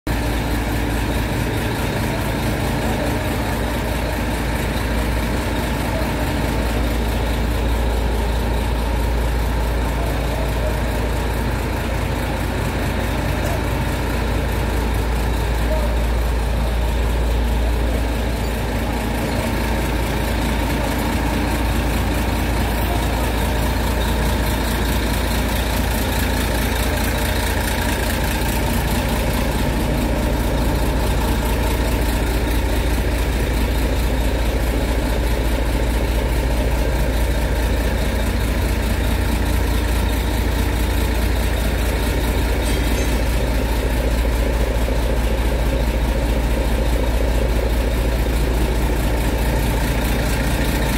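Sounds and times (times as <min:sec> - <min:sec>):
diesel engine idling: 0:00.1 - 0:50.9.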